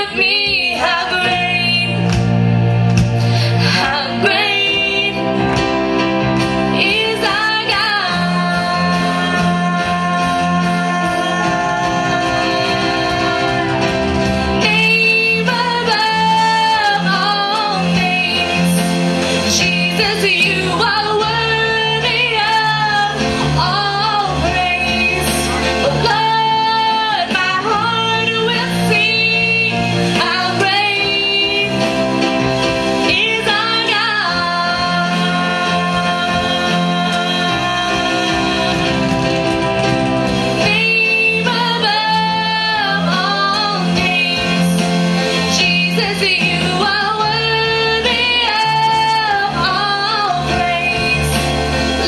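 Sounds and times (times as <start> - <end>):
woman singing: 0.0 - 2.2, 3.5 - 5.7, 6.7 - 52.0
electronic keyboard chords: 0.0 - 52.0.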